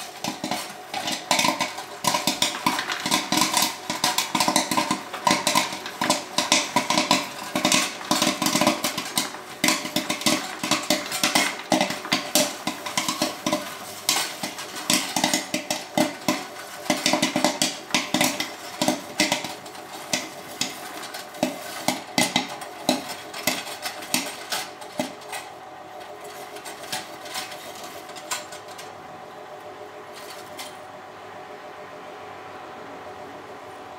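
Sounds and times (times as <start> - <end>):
corn kernels popping: 0.0 - 29.0, 30.0 - 30.8
popcorn machine hum: 0.0 - 33.9.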